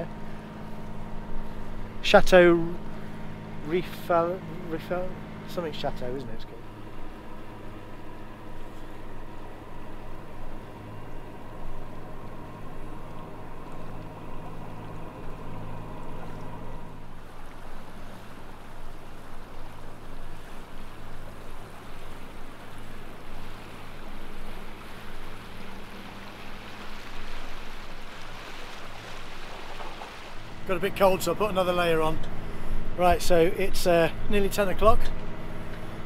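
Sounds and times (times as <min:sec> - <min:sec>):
boat engine running: 0:00.0 - 0:36.0
water rushing past hull: 0:00.0 - 0:36.0.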